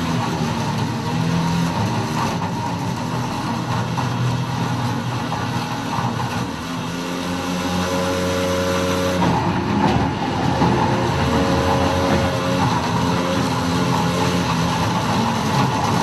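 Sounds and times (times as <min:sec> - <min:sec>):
sewage pump motor hum: 0:00.0 - 0:16.0.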